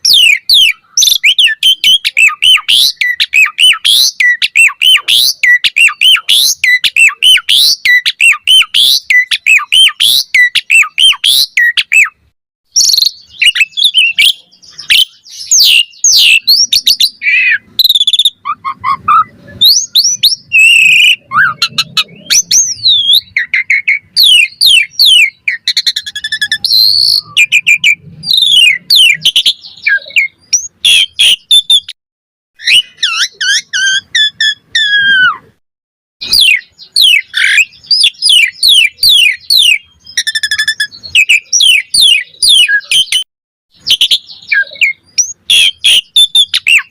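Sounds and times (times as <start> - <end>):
starling singing: 0.0 - 32.0, 32.6 - 35.6, 36.2 - 46.9.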